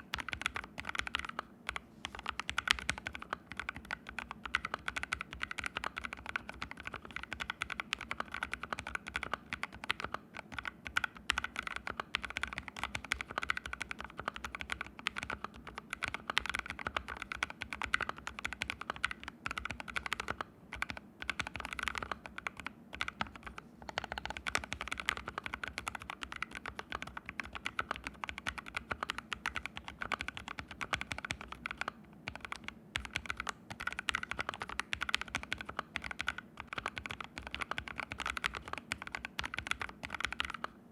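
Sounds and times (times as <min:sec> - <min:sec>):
mechanical keyboard typing: 0:00.0 - 0:40.8.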